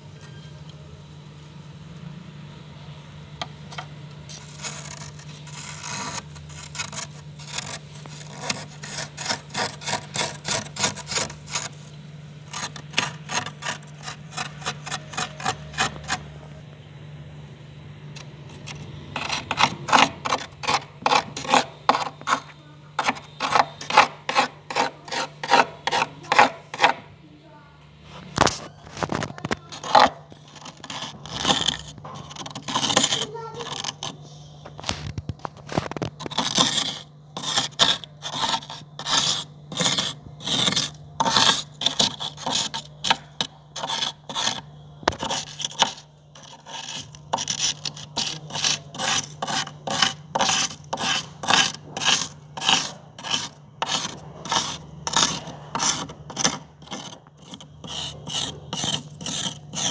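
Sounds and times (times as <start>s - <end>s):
metal spoon scraping frost: 3.7s - 16.4s, 18.2s - 27.1s, 28.1s - 59.9s.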